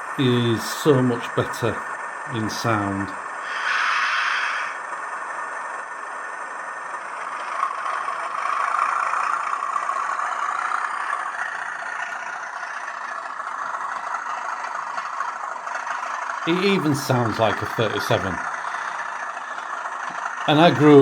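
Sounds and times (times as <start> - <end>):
model locomotive diesel engine sound: 0.0 - 21.0.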